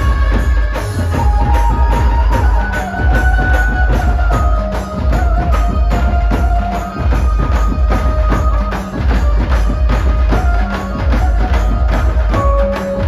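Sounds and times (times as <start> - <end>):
amplified procession band music: 0.0 - 13.0
fast drum beat: 0.0 - 13.0
held melody line: 0.0 - 13.0.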